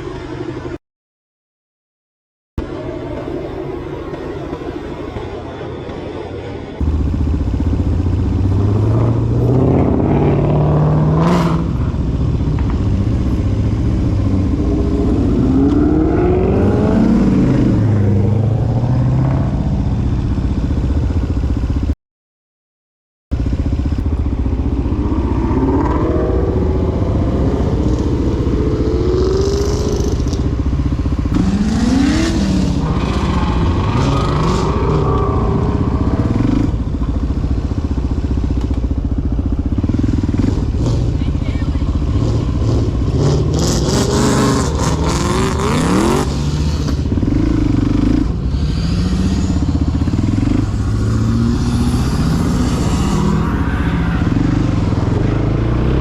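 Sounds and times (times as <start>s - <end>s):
riding noise: 2.6s - 21.9s, 23.3s - 56.0s
motorcycle engine accelerating: 6.8s - 22.0s, 23.3s - 56.0s.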